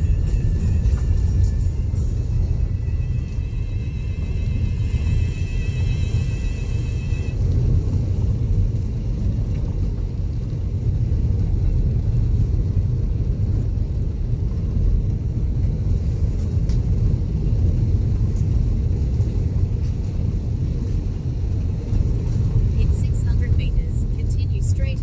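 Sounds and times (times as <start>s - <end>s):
tyres on gravel road: 0.0s - 23.6s
vehicle engine rumble: 0.0s - 25.0s.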